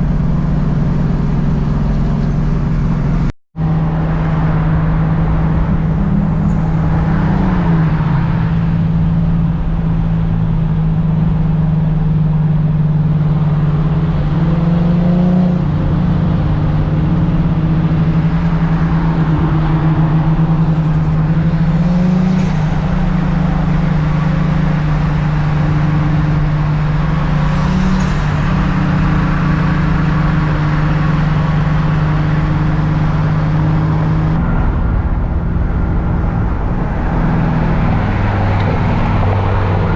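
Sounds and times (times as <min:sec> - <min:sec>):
car engine and exhaust cruising: 0:00.0 - 0:39.9.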